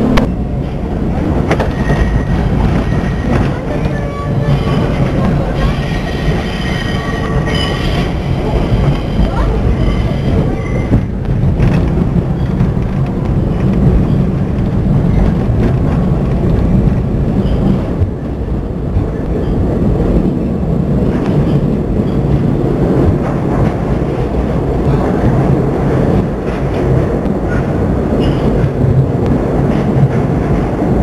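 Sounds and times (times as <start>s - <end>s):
subway train wheels rumbling: 0.0s - 31.0s.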